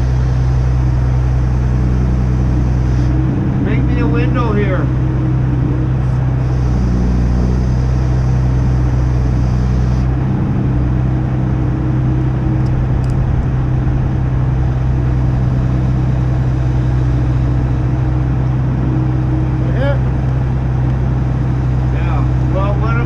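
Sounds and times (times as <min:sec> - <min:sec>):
crane engine droning: 0:00.0 - 0:23.0.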